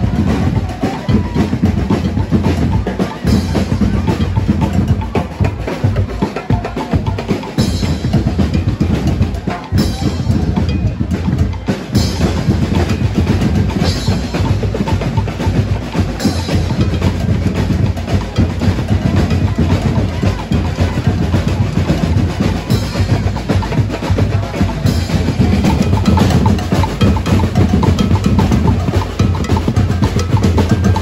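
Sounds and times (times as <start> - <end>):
bass and snare drums beating: 0.0 - 31.0.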